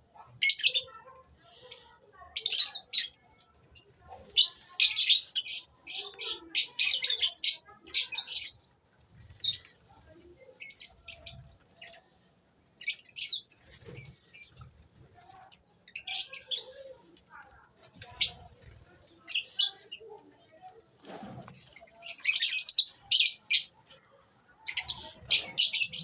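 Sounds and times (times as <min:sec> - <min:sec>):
lovebirds chirping: 0:00.4 - 0:12.2, 0:12.8 - 0:17.0, 0:17.8 - 0:20.8, 0:21.6 - 0:23.8, 0:24.6 - 0:26.0.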